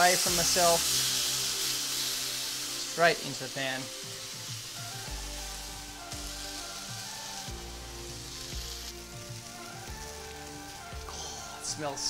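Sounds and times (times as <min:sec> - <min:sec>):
background music with slow bass: 0:00.0 - 0:12.0
fish sizzling in a grill pan: 0:00.0 - 0:12.0.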